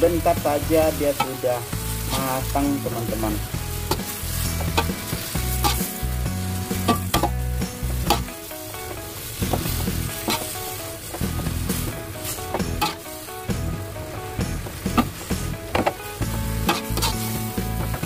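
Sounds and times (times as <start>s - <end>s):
leaves and beef sizzling in wok: 0.0s - 18.0s
metal spatula scraping wok: 0.2s - 18.0s.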